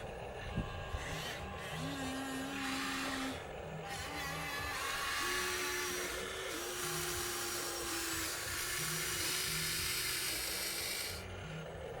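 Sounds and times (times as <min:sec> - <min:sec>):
small electric motors whining: 0:00.0 - 0:12.0.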